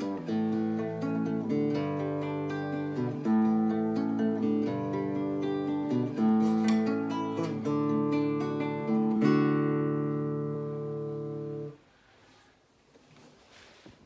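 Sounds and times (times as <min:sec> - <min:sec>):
acoustic guitar music: 0:00.0 - 0:11.9.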